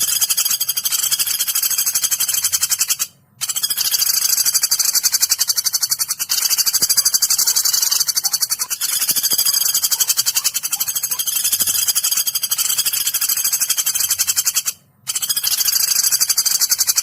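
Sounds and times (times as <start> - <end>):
woodpecker chattering trill: 0.0 - 17.0.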